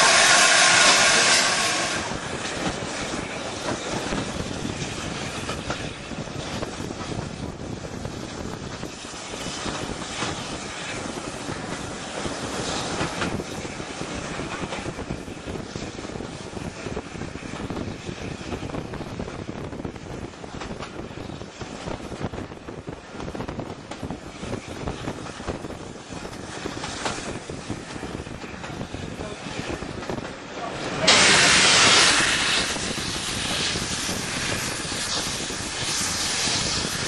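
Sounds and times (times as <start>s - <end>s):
steam hissing: 0.0s - 19.6s, 24.0s - 37.0s
steam train rumbling: 0.0s - 37.0s.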